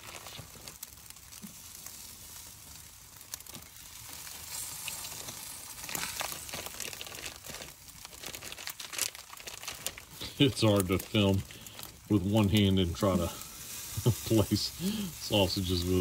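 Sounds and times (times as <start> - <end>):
crackles: 0.0 - 16.0
meat sizzling on a grill: 0.0 - 16.0.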